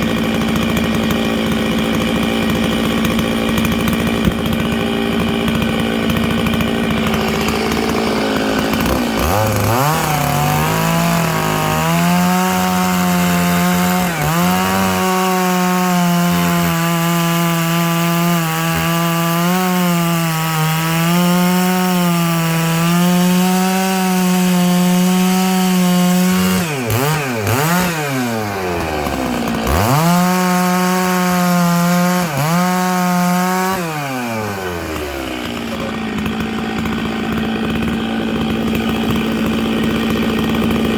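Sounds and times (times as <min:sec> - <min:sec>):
chainsaw cutting through logs: 0:00.0 - 0:40.9.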